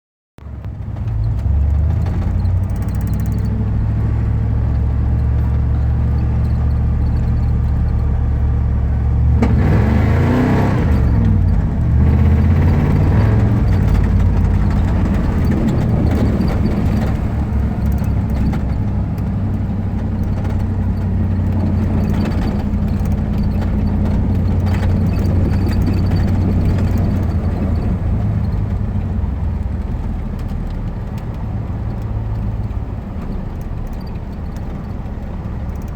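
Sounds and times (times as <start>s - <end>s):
truck engine running: 0.4s - 35.9s.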